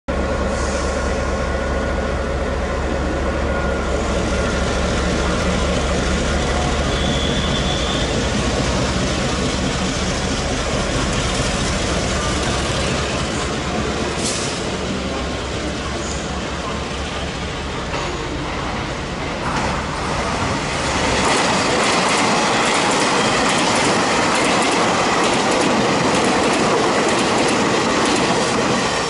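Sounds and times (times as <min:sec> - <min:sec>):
electric locomotive humming: 0:00.1 - 0:29.0.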